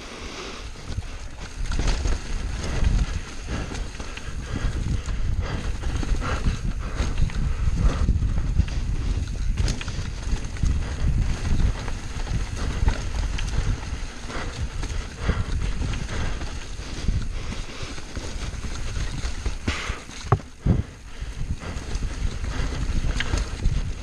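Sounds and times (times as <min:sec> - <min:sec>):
tyres and wind rumbling: 0:00.0 - 0:24.0
bike knocking and rattling: 0:00.7 - 0:24.0.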